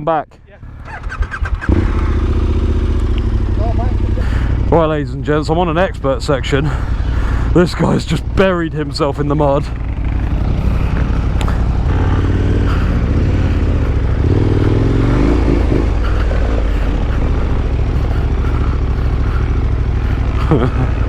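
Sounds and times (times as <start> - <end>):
motorcycle engine running: 0.5 - 21.0.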